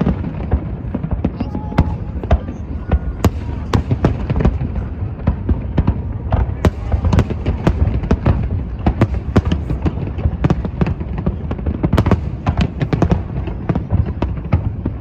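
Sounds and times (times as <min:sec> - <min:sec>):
deep rumble of booms: 0:00.0 - 0:15.0
fireworks bursting and crackling: 0:00.0 - 0:15.0.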